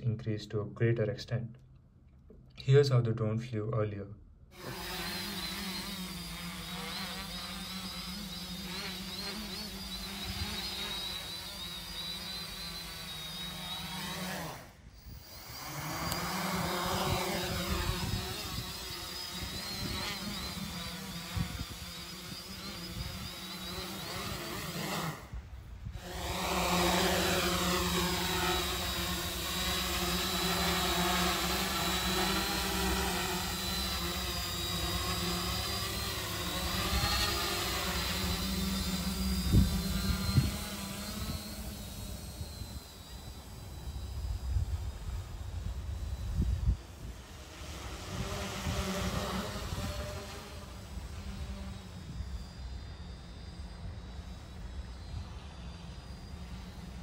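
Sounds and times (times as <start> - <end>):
drone motors buzzing: 4.5 - 57.0.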